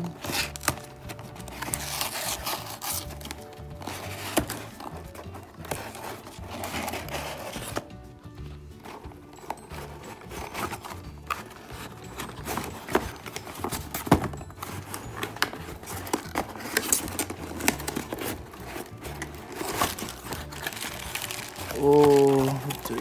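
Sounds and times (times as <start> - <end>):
cardboard rustling and tearing: 0.0 - 7.9, 8.8 - 23.0.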